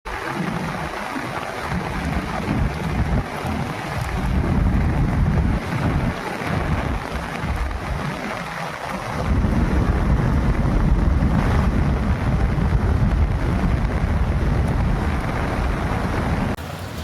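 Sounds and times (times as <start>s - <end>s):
steady rushing noise: 0.1s - 17.0s
wind buffeting microphone: 0.1s - 17.0s.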